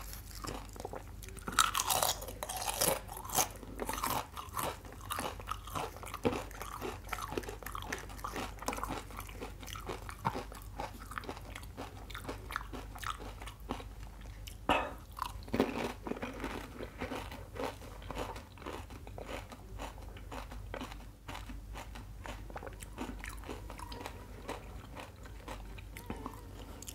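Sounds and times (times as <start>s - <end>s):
crunchy food chewing: 0.0s - 26.9s.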